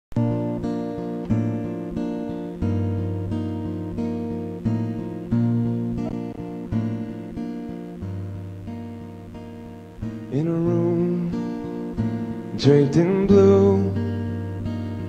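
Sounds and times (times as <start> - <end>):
acoustic guitar chords: 0.1 - 15.0.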